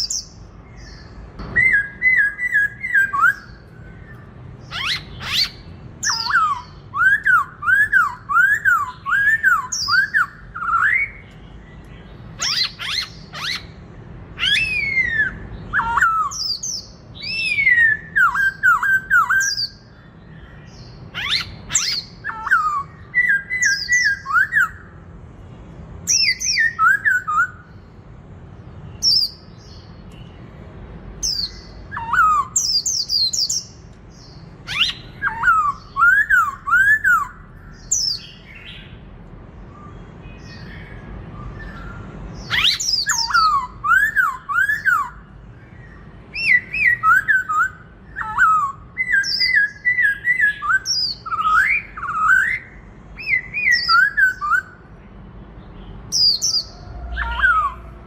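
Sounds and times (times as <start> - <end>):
bird singing whistled phrases: 0.0 - 11.4, 12.4 - 13.8, 14.4 - 20.0, 21.1 - 25.0, 26.0 - 27.7, 31.2 - 38.9, 39.8 - 54.8, 56.2 - 58.0.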